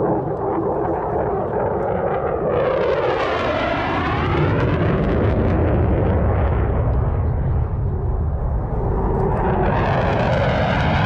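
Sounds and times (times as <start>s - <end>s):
deep jet rumble: 0.0s - 11.0s
fighter jets flying past: 0.0s - 11.0s.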